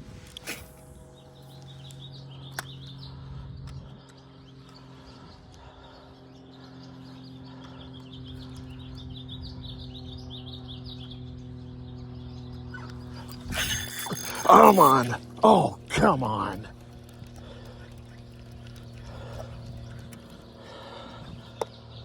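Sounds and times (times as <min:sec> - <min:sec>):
small birds chirping: 0:00.3 - 0:22.0.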